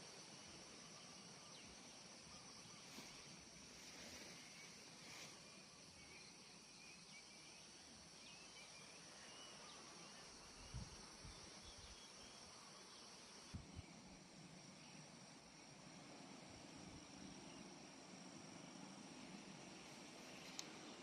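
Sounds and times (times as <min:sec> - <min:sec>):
faint insect hum: 0:00.0 - 0:21.0.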